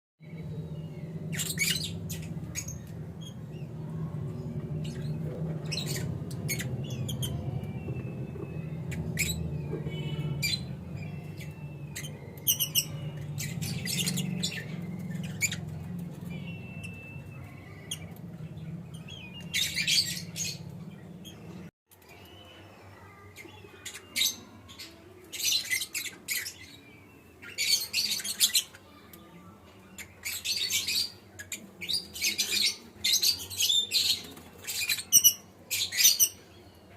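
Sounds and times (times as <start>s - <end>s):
bird chicks squawking and chirping: 0.3s - 36.9s.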